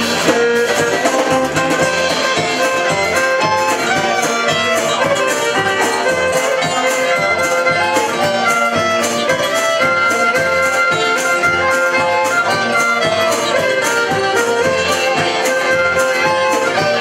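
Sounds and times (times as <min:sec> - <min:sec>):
drums steady beat: 0:00.0 - 0:17.0
fiddle melody: 0:00.0 - 0:17.0
folk band playing: 0:00.0 - 0:17.0
strummed guitars: 0:00.0 - 0:17.0.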